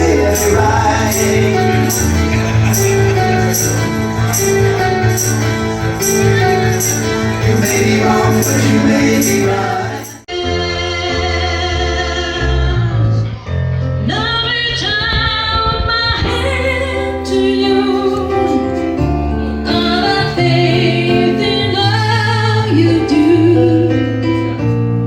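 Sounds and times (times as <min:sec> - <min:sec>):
keyboard chords: 0:00.0 - 0:15.1, 0:15.7 - 0:25.0
bass notes: 0:00.0 - 0:25.0.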